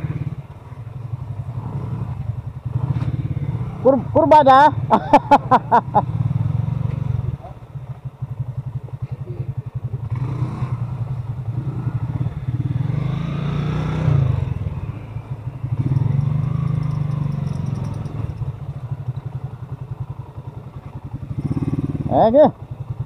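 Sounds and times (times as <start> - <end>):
small motorcycle engine running: 0.0 - 23.0.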